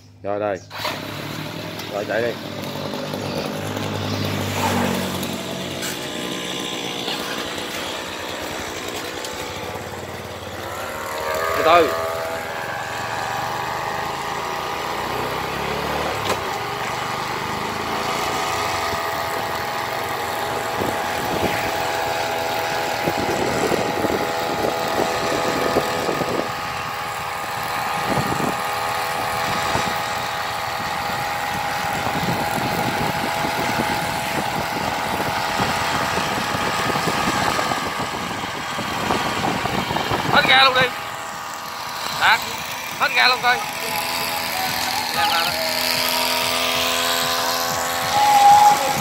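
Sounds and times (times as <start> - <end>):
small engine whining at high revs: 0.6 - 49.0.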